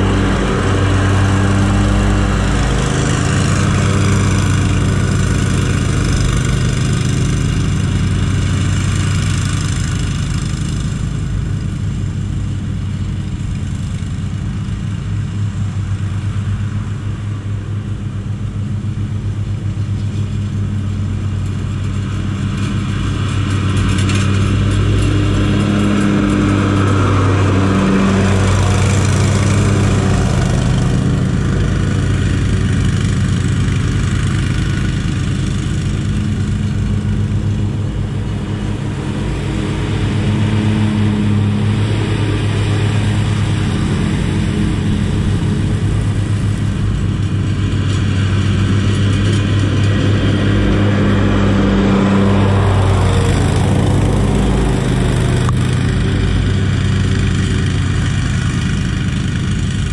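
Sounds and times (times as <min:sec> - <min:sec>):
riding lawn mower running: 0:00.0 - 0:59.9.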